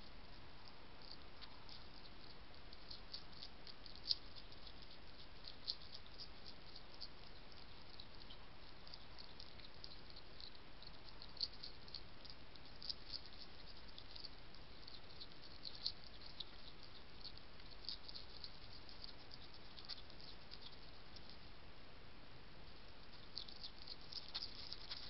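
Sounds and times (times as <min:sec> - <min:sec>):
hedgehog chewing and crunching: 0:00.0 - 0:21.6, 0:22.6 - 0:25.0.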